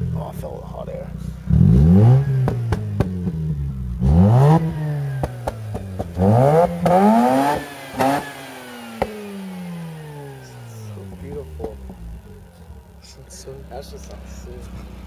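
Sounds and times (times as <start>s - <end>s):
exhaust pops: 0.0s - 15.0s
rotary engine revving: 1.1s - 15.0s.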